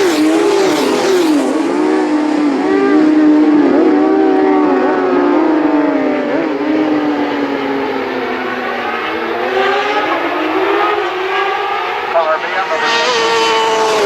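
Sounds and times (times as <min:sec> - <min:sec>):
racing motorcycle engines revving: 0:00.0 - 0:14.0.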